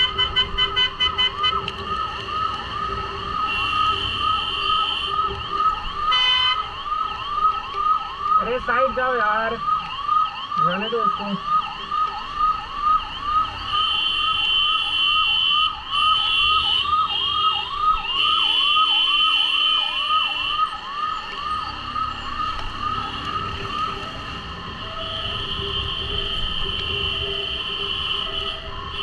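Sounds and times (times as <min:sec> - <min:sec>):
ambulance siren yelping: 0:00.0 - 0:29.0
traffic noise: 0:00.0 - 0:29.0.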